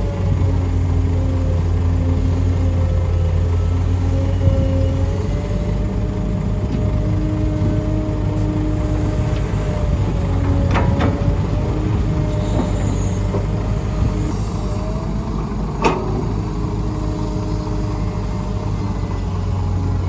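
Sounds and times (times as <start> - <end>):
diesel machinery running: 0.0 - 20.0.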